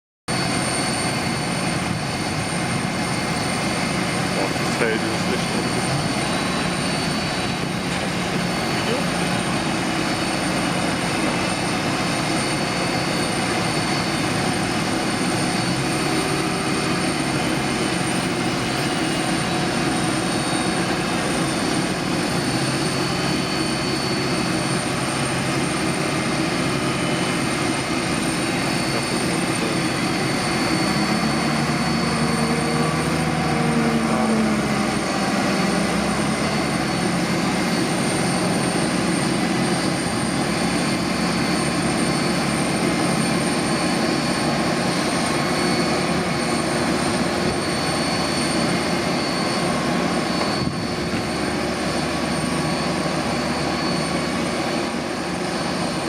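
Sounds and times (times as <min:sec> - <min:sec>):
jet engine whine: 0:00.3 - 0:56.0.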